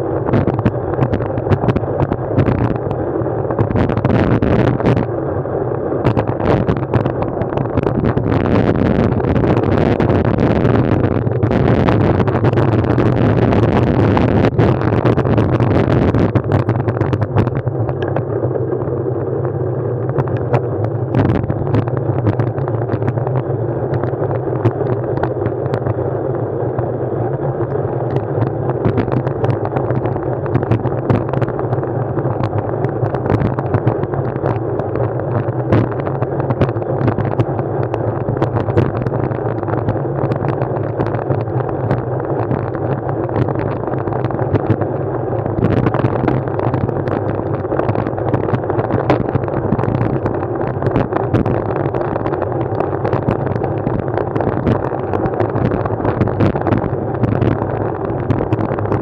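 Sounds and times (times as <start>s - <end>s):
low ride rumble and rush: 0.0s - 59.0s.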